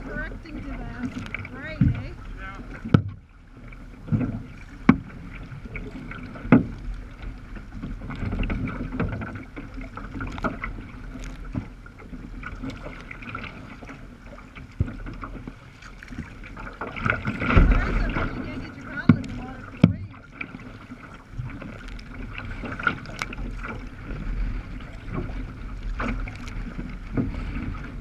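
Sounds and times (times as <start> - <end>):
sharp water splashes: 0.0 - 3.2, 4.0 - 28.0
water sloshing against kayak: 0.0 - 28.0.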